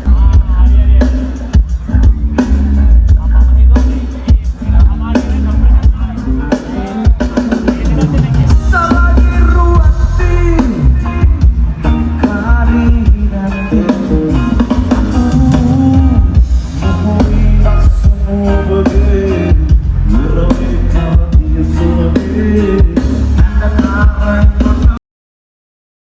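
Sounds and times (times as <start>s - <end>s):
drum kit: 0.0s - 25.0s
guitar: 0.0s - 25.0s
person singing: 0.0s - 25.0s.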